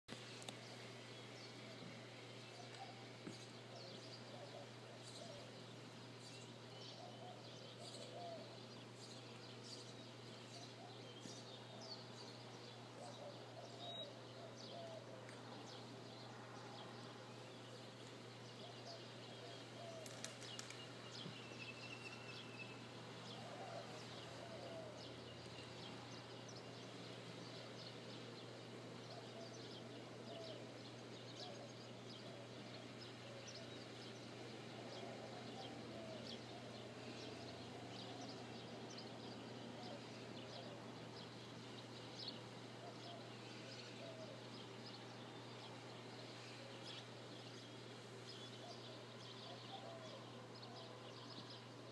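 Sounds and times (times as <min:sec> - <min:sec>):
steady low hum: 0:00.1 - 0:51.9
birds chirping: 0:00.2 - 0:51.9.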